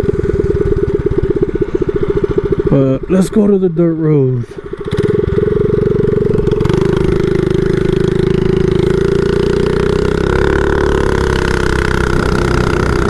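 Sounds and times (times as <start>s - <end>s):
mini bike engine running: 0.0s - 3.5s, 4.5s - 13.0s.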